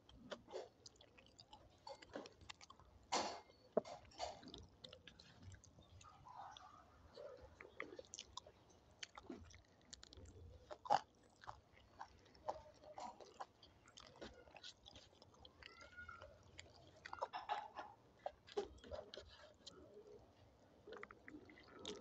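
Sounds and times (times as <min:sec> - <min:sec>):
food crunching: 0:00.0 - 0:22.0
person chewing: 0:00.0 - 0:22.0.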